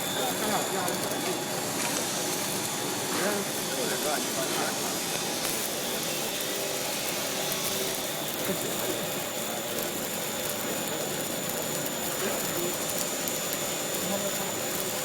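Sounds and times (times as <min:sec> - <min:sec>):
high machine whine: 0:00.0 - 0:15.0
machinery hum and hiss: 0:00.0 - 0:15.0.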